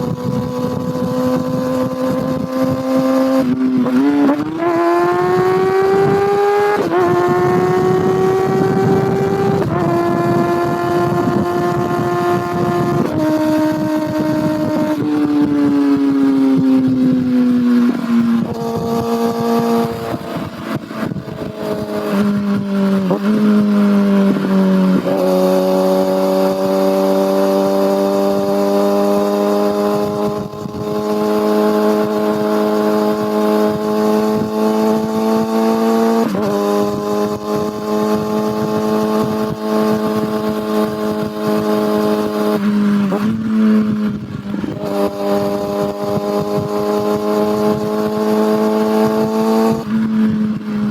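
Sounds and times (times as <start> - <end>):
motorcycle engine revving: 0.0 - 50.9
road noise: 0.0 - 50.9
wind noise: 0.0 - 50.9.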